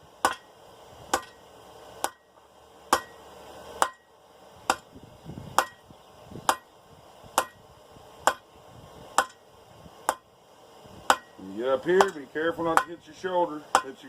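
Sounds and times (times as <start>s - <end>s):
hammer striking hot steel: 0.2s - 4.9s, 5.6s - 6.7s, 7.3s - 8.5s, 9.1s - 10.3s, 11.0s - 14.0s.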